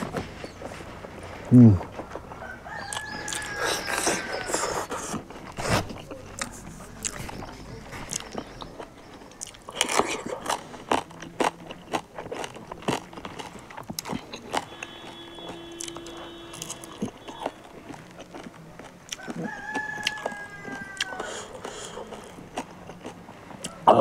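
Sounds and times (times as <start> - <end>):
person chewing food: 0.0 - 23.8.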